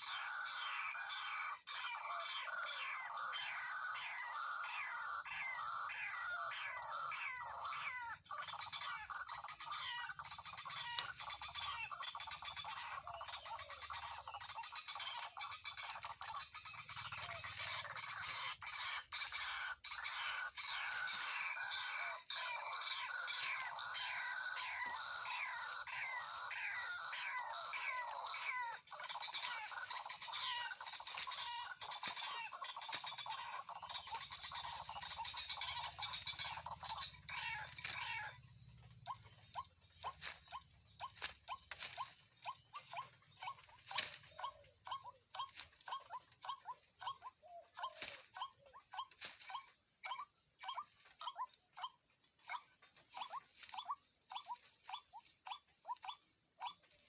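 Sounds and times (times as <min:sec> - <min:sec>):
waterhens calling: 0:00.0 - 0:57.0.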